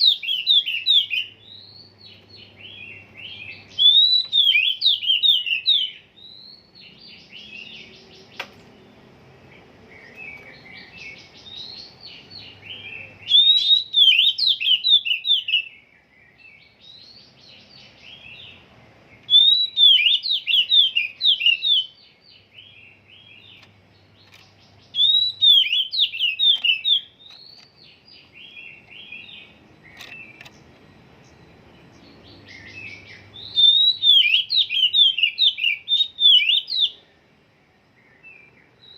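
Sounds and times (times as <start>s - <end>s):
bird whistled song phrases: 0.0s - 8.4s, 9.9s - 23.6s, 24.8s - 30.5s, 32.1s - 37.1s
soft bird twittering: 0.0s - 38.9s.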